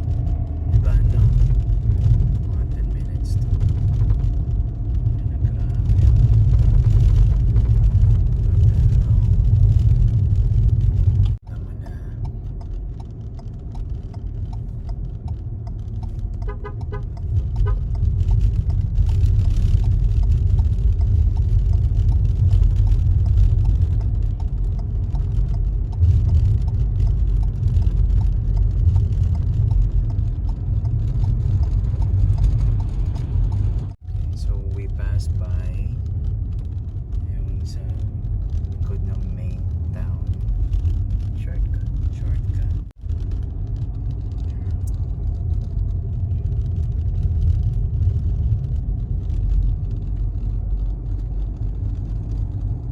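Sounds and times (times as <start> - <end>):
car road rumble: 0.0 - 52.9.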